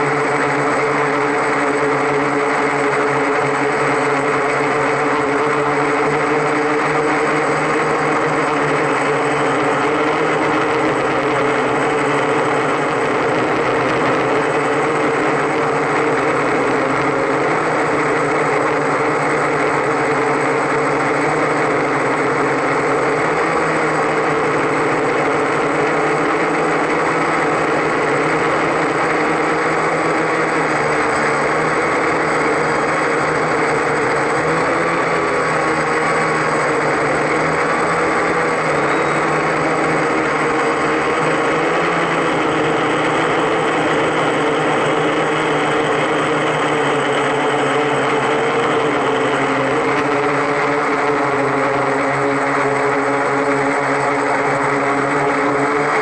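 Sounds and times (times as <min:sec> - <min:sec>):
drone propellers whirring: 0:00.0 - 0:56.0.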